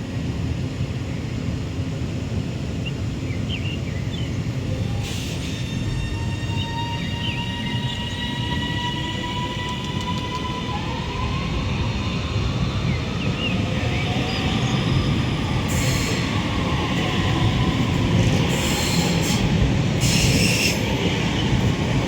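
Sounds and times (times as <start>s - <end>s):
train wheels on track: 0.1s - 22.0s.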